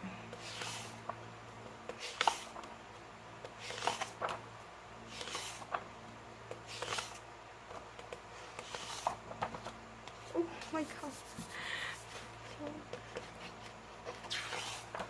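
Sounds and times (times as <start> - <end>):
pages rustling with soft taps: 0.3 - 2.7, 3.4 - 4.4, 5.1 - 5.9, 6.5 - 15.0.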